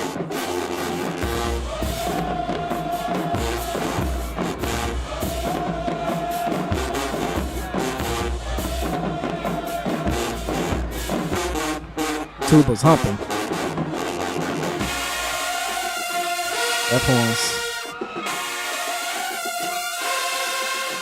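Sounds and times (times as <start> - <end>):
bass drum and drumline beat: 0.0 - 21.0
marching band playing: 0.0 - 21.0
trombones and tubas: 0.0 - 21.0.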